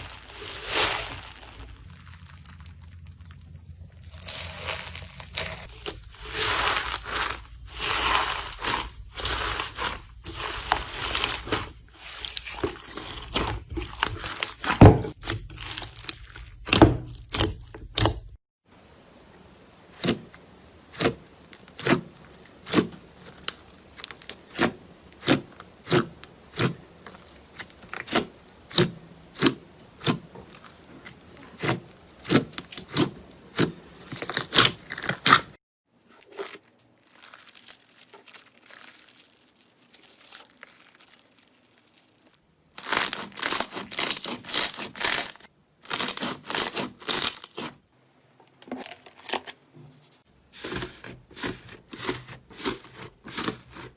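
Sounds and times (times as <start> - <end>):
slime crackling: 0.0 - 18.4, 19.8 - 35.6, 36.2 - 47.8, 50.6 - 53.9.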